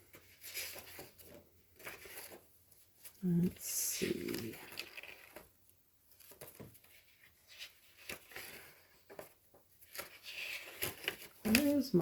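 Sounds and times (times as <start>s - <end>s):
papers rustling: 0.0s - 12.0s.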